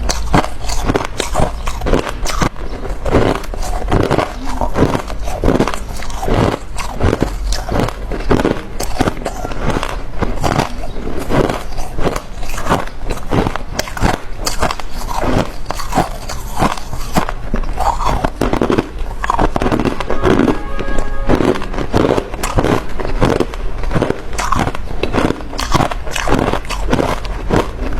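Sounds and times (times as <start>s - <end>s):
chewing crunchy food: 0.0s - 27.9s.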